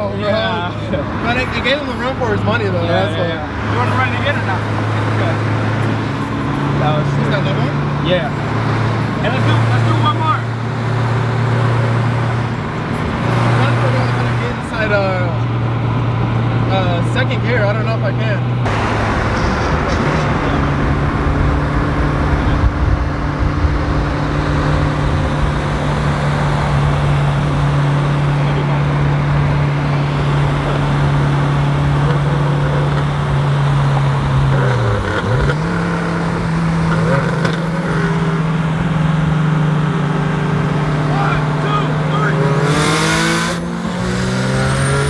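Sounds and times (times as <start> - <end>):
car engine cruising: 0.0 - 45.0
road and wind noise: 0.0 - 45.0.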